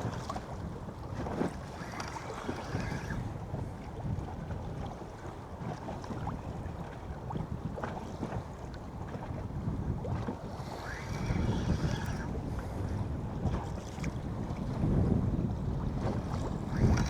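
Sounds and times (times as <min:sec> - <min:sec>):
water slapping against boat hull: 0:00.0 - 0:17.0
wind buffeting microphone: 0:00.0 - 0:17.0.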